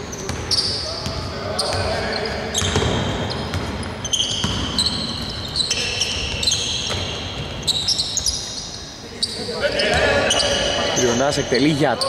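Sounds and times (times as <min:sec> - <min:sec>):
sneakers squeaking on floor: 0:00.0 - 0:12.0.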